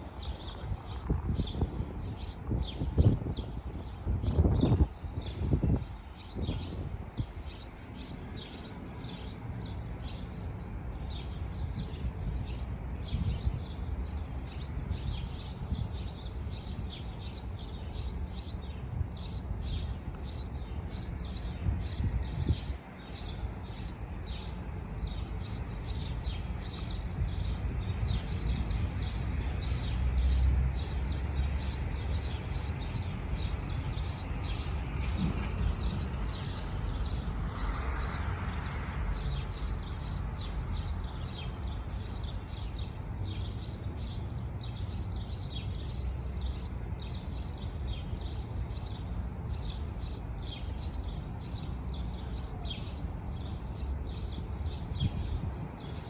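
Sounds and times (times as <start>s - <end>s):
birds chirping: 0.0s - 56.0s
constant low rumble: 0.0s - 56.0s.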